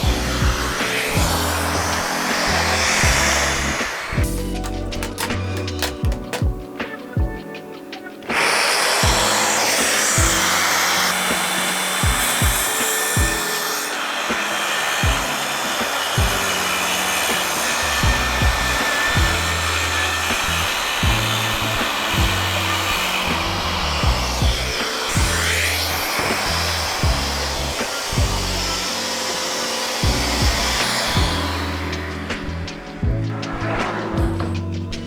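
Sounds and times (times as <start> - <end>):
power tool running: 0.0 - 6.4, 8.2 - 34.7
background music with beat: 0.0 - 35.0.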